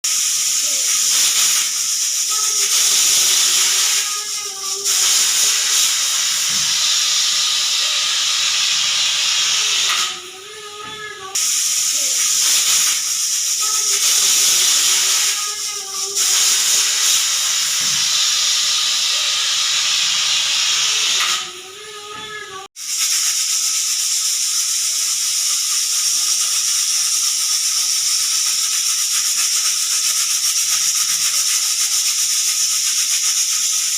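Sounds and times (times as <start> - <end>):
pressure cooker steam hissing: 0.0 - 33.9.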